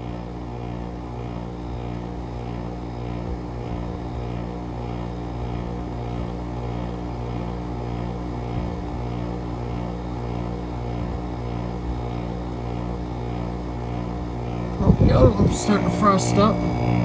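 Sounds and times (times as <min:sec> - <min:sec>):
compressor humming with throb: 0:00.0 - 0:17.0
air conditioner fan whoosh: 0:01.8 - 0:17.0.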